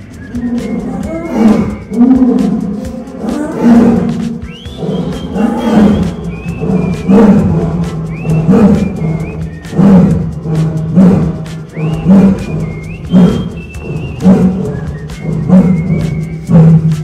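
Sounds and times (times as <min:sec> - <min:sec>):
lions roaring: 0:00.2 - 0:17.0.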